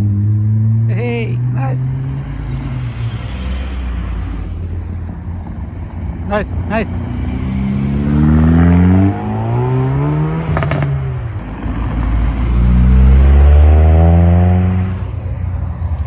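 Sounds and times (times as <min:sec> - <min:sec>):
car engine revving and accelerating: 0:00.0 - 0:16.0.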